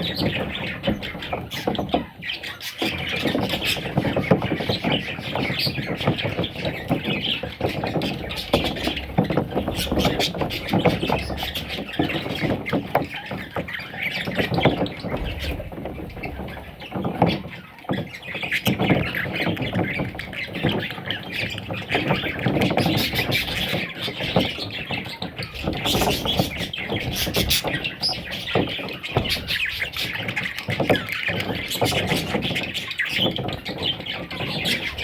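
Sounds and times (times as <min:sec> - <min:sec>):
parrots squawking and chattering: 0:00.0 - 0:35.0.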